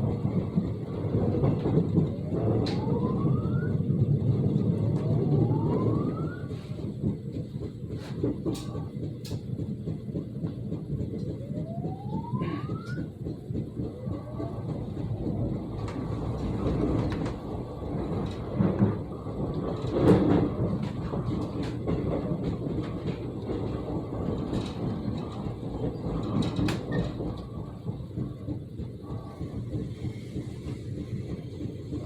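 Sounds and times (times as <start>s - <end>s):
train wheels rumbling on rail: 0.0s - 32.0s
wheels thumping: 4.9s - 32.0s.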